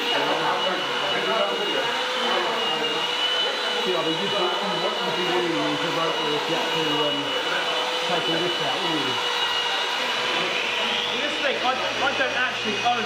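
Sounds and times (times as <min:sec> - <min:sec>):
rotary polisher whining: 0:00.0 - 0:13.0.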